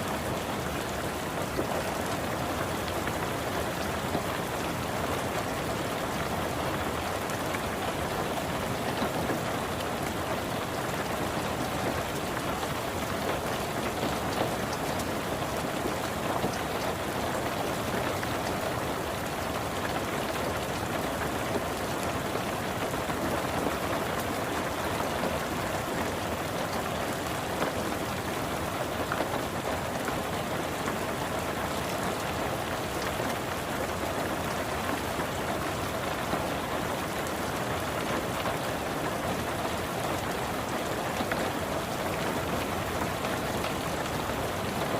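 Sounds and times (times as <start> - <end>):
rain on a car: 0.0 - 44.9.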